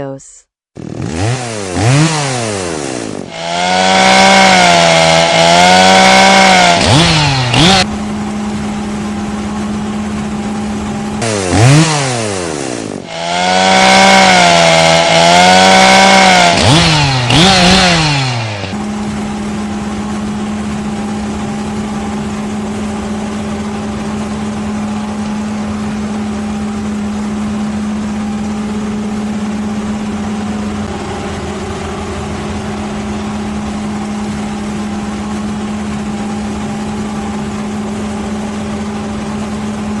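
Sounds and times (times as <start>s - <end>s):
engine running steadily: 0.8s - 40.0s.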